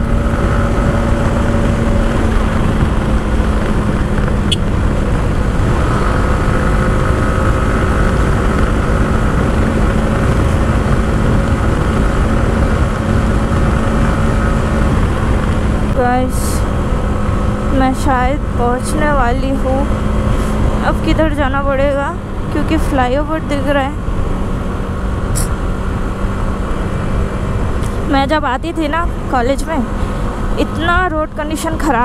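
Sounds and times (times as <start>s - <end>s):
motorcycle engine cruising: 0.0s - 32.0s
wind and road noise: 0.0s - 32.0s.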